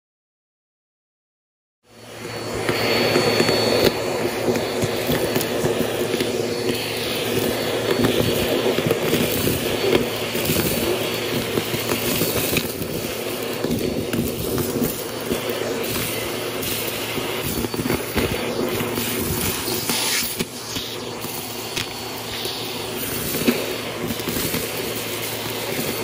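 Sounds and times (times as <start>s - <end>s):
vacuum cleaner running: 1.8s - 26.0s
grit rattling up vacuum nozzle: 2.7s - 26.0s.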